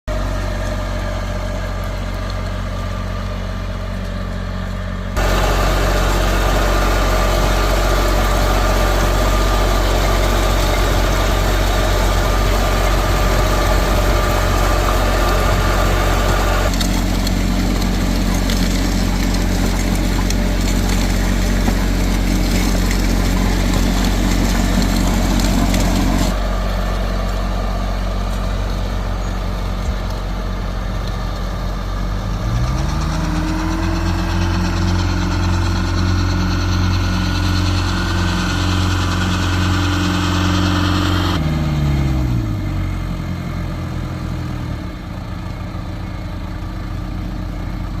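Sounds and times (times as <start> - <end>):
tractor diesel engine: 0.0 - 48.0
planter rattling and rushing: 0.1 - 41.4.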